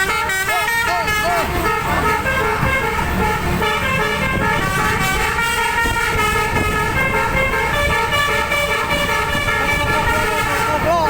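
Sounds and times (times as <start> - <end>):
musical air horn melody: 0.0 - 10.8
engine and road rumble: 0.0 - 11.0.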